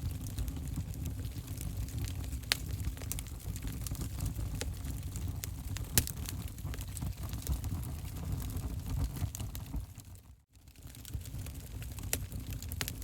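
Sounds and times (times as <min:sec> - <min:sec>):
fire crackling and popping: 0:00.0 - 0:13.0
low roar of flames: 0:00.0 - 0:13.0.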